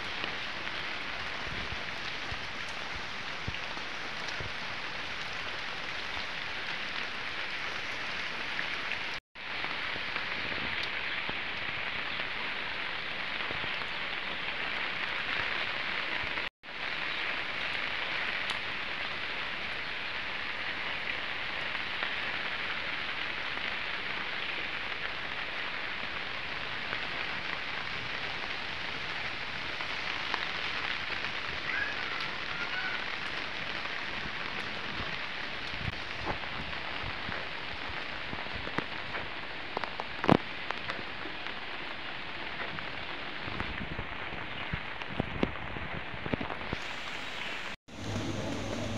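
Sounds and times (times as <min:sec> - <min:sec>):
rain falling on leaves: 0:00.0 - 0:48.9.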